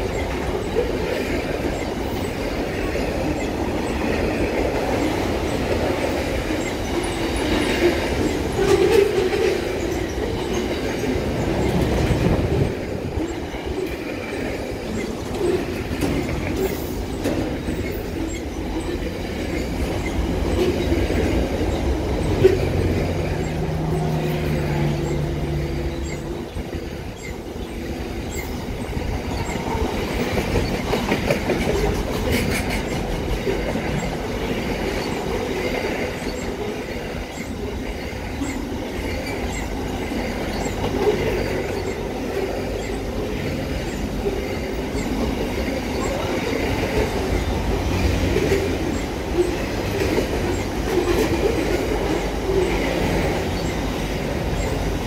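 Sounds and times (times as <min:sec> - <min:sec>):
freight train wheels rumbling: 0:00.0 - 0:55.0
wheels clicking over rail joints: 0:00.0 - 0:55.0.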